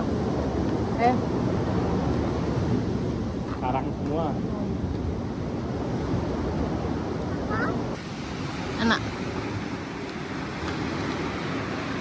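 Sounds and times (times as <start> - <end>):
waves washing on shore: 0.0 - 12.0
wind rumbling on microphone: 0.0 - 12.0.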